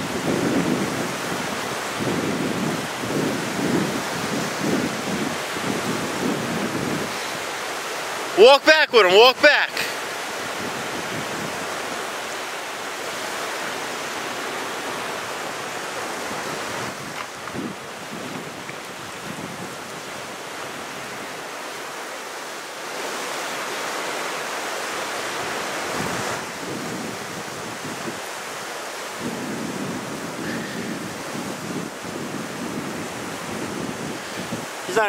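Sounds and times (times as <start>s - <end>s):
wind on microphone: 0.0s - 8.3s, 9.8s - 22.0s, 24.9s - 35.0s
waves breaking on shore: 0.0s - 35.0s.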